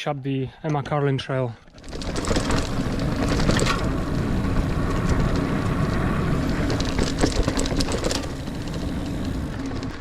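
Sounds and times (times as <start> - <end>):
bike rattling and clicking: 1.7 - 10.0
tyres rumbling on dirt: 1.8 - 10.0.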